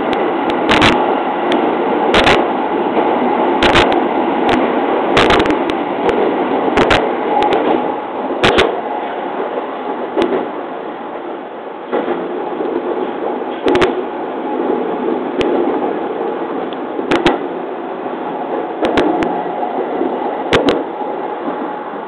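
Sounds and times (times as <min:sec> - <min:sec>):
train wheels rumbling on rails: 0:00.0 - 0:22.0
wheels clacking over rail joints: 0:00.0 - 0:22.0.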